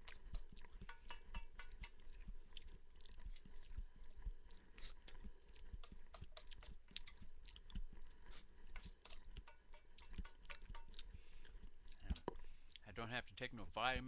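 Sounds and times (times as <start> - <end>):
person chewing food: 0.0 - 12.9.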